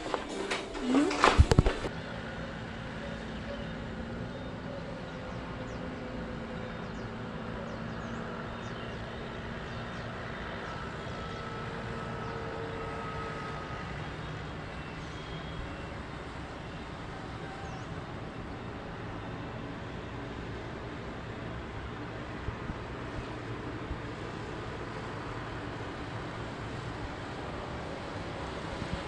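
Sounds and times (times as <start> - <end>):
distant city traffic hum: 0.0 - 29.0.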